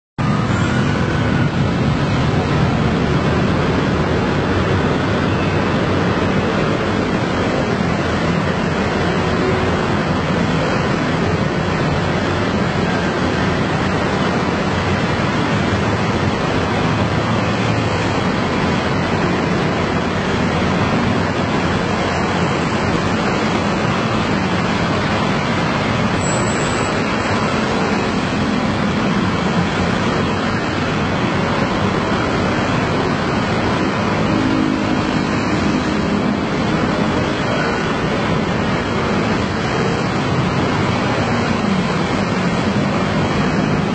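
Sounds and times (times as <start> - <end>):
motor scooter traffic: 0.2 - 43.9.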